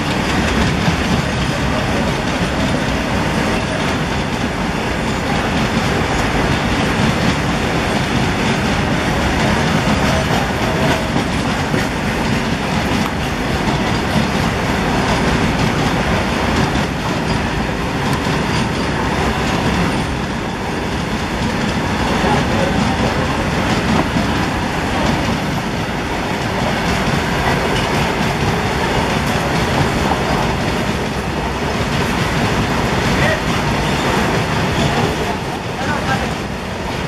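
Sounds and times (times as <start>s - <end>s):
freight train wheels rumbling on rails: 0.0s - 37.0s.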